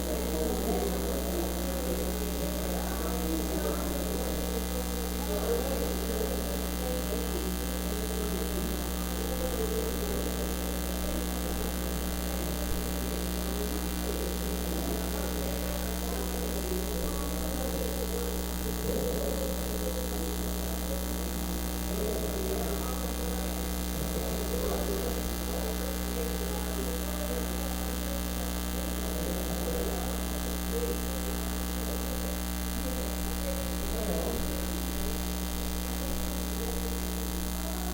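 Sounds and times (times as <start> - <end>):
buzzy mains hum: 0.0 - 37.9
muffled indistinct sound: 0.0 - 37.9.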